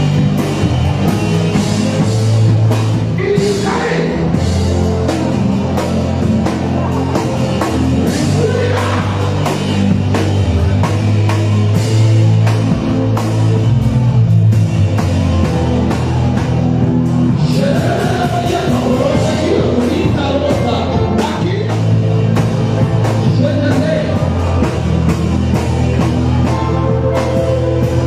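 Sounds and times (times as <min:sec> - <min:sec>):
upbeat music with drums and bass: 0:00.0 - 0:28.0.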